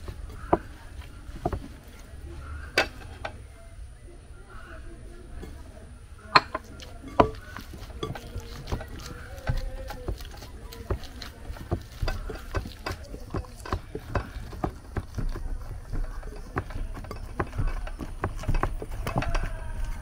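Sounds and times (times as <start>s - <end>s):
hands kneading dough in glass bowl: 0.0s - 2.2s, 5.4s - 20.0s.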